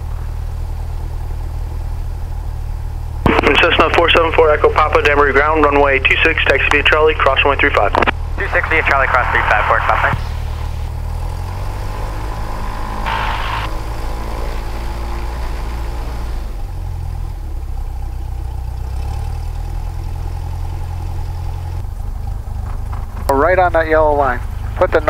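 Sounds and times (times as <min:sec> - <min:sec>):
aircraft engine and propeller: 0:00.0 - 0:25.0.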